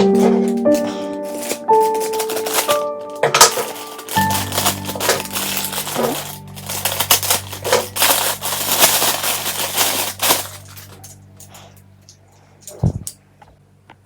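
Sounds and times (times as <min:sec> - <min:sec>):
packaging crinkling and rustling: 0:00.0 - 0:11.7
low hum: 0:00.0 - 0:13.0.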